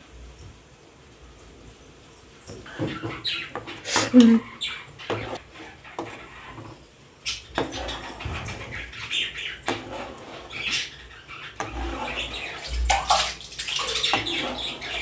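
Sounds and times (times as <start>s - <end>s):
spoon stirring milk in pan: 2.6s - 15.0s.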